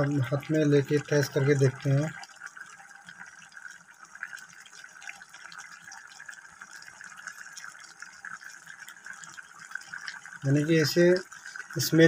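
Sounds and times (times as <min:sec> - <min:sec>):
curry simmering with bubbling pops: 0:00.0 - 0:12.0.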